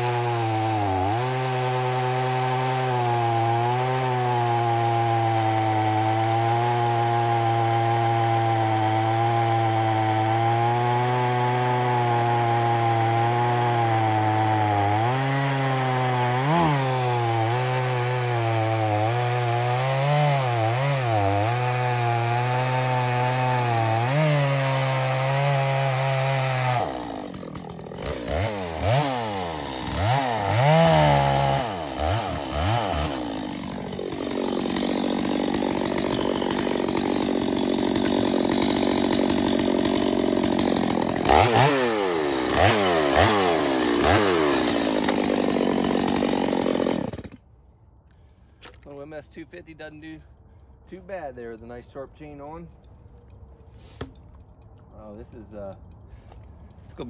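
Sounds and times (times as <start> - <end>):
chainsaw revving: 0.0 - 47.4
chainsaw cutting wood: 0.0 - 47.5, 53.8 - 54.5.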